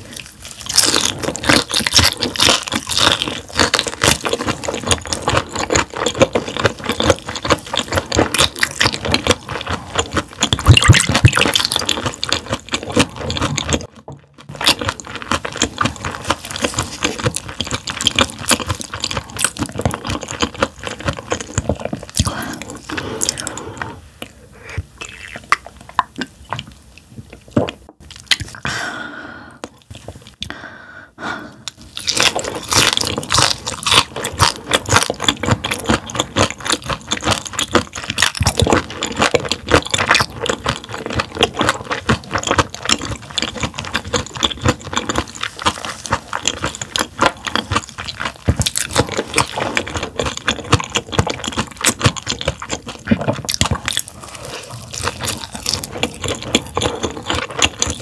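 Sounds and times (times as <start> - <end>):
crunchy chewing of raw fish: 0.0 - 28.7, 31.4 - 58.0.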